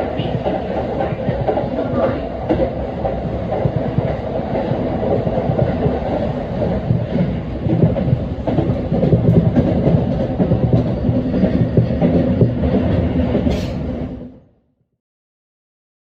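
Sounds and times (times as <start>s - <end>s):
train wheels rumbling on rail: 0.0s - 14.6s.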